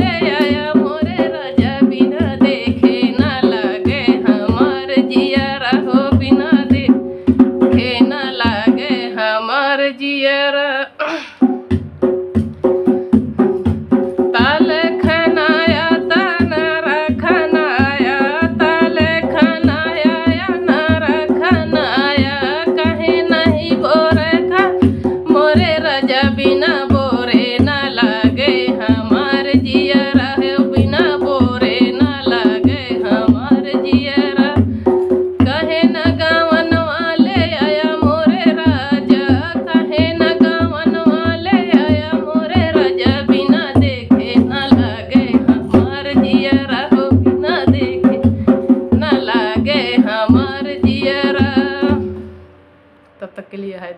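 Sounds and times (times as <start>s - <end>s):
fast hand drum beat: 0.0s - 9.2s, 11.4s - 52.5s
woman singing: 0.0s - 11.4s, 14.3s - 52.2s.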